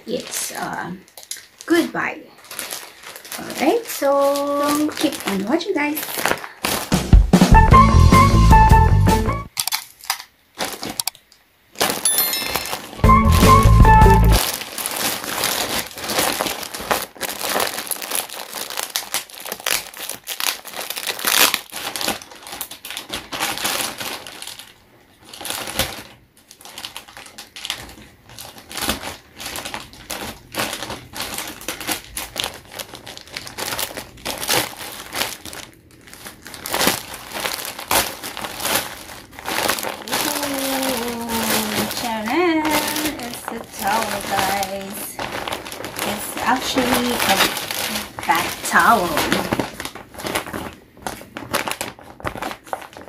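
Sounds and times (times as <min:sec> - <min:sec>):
plastic bag crinkling: 0:00.0 - 0:07.3, 0:09.5 - 0:53.0.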